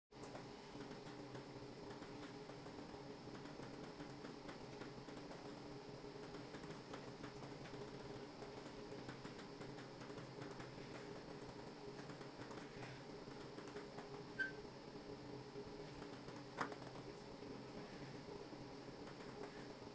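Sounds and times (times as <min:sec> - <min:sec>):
faint mechanical hum: 0:00.1 - 0:19.9
quick irregular clicks: 0:00.2 - 0:14.3, 0:15.9 - 0:17.2, 0:19.0 - 0:19.8.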